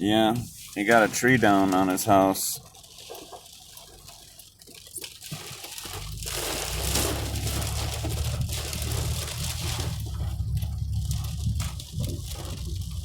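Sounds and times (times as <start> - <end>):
heavy rain pelting a car: 0.0 - 13.0.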